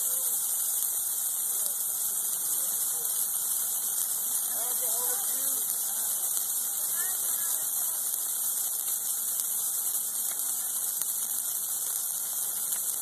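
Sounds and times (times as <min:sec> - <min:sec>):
faint fire pops: 0:00.0 - 0:13.0
flames hissing: 0:00.0 - 0:13.0.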